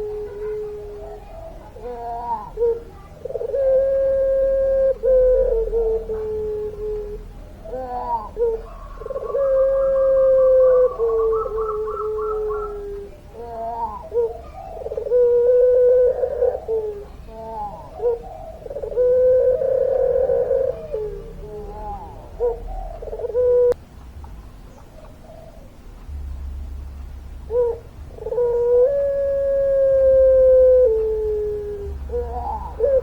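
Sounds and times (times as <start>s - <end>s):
dove cooing: 0.0s - 23.8s, 24.7s - 25.9s, 27.4s - 33.0s.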